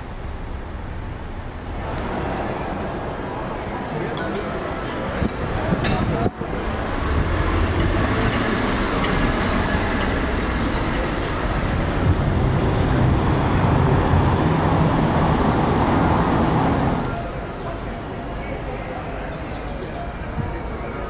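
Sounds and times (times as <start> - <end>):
passing traffic rumble: 0.0 - 21.0.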